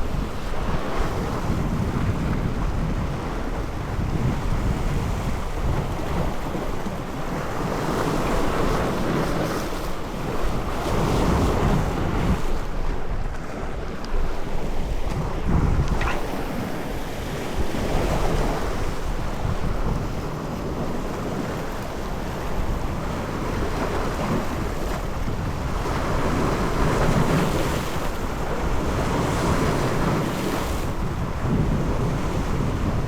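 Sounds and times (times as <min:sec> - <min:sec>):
sea waves washing: 0:00.0 - 0:33.0
wind on microphone: 0:00.0 - 0:33.0.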